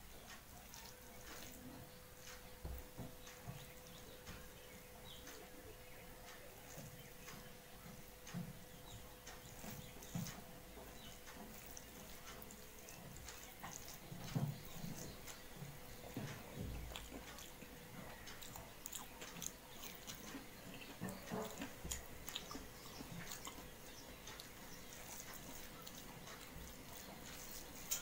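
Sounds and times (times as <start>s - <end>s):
person chewing softly: 0.0s - 28.0s.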